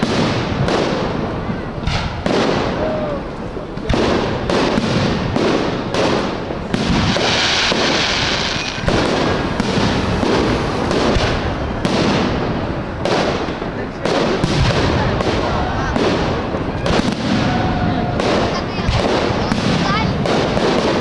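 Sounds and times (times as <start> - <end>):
firework crackling: 0.0 - 21.0
firework shells booming: 0.0 - 21.0.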